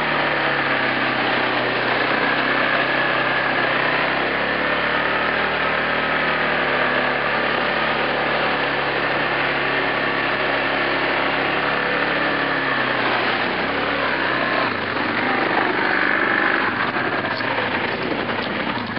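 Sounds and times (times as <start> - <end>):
atv engine running: 0.0 - 18.9.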